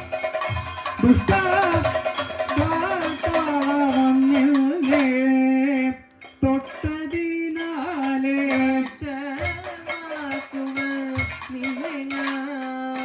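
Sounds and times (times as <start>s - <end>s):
sharp percussion strokes: 0.0s - 13.0s.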